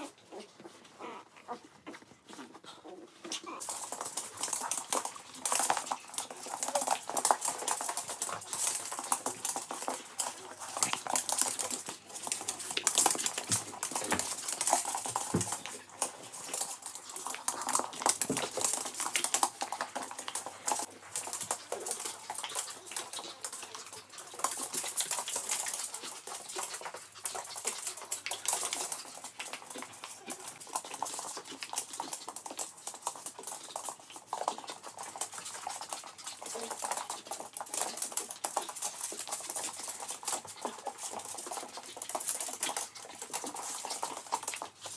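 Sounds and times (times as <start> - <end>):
claws clicking on hard floor: 0.0 - 44.9
dogs scuffling: 0.0 - 44.9.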